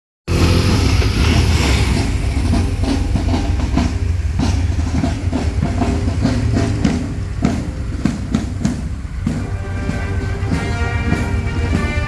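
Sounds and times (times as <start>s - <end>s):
motorcycle engines rumbling: 0.3s - 12.0s.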